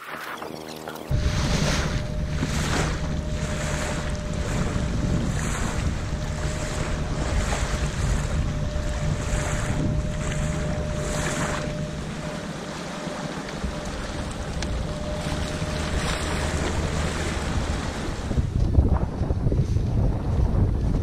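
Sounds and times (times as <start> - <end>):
water slapping boat hull: 0.0 - 21.0
thin steady motor tone: 0.3 - 19.3
wind buffeting microphone: 1.0 - 21.0.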